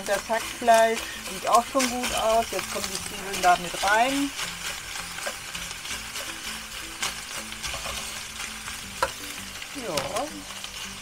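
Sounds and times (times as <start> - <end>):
meat and onions sizzling in a pan: 0.0 - 11.0.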